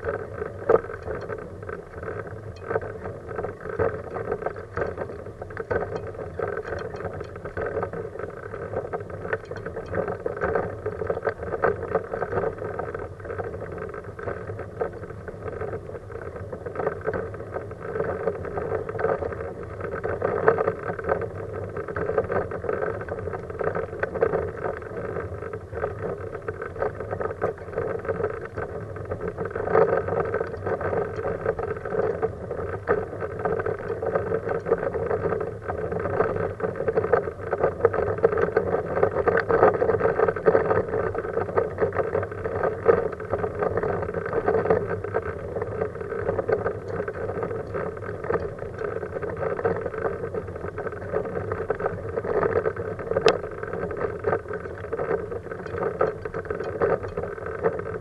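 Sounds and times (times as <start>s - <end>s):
wheelchair rolling on asphalt: 0.0s - 58.0s.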